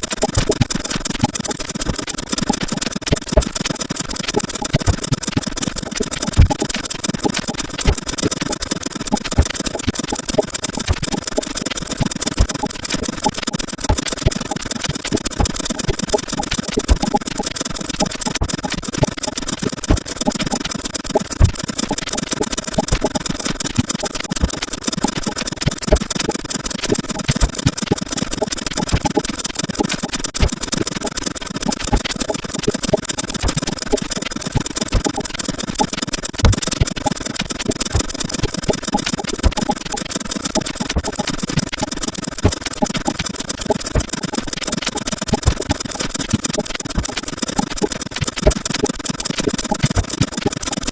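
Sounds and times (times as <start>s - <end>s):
sped-up rattling clicks: 0.0s - 50.9s.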